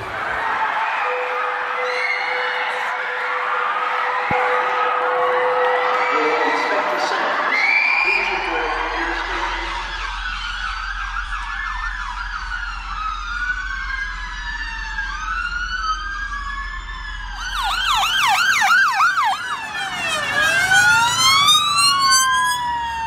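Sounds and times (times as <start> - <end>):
wailing sirens: 0.0 - 23.0
siren yelp: 0.5 - 23.0.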